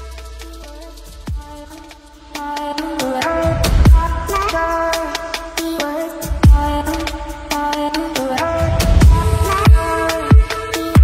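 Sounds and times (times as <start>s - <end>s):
hi-hat ticks: 0.0s - 11.0s.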